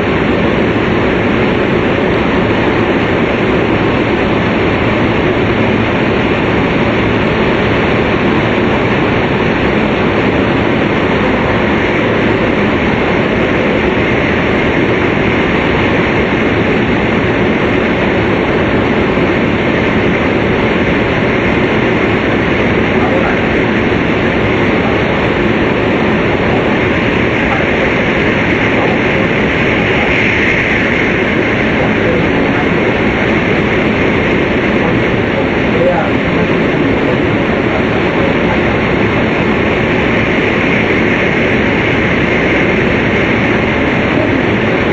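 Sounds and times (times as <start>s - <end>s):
train rumbling at speed: 0.0s - 44.9s.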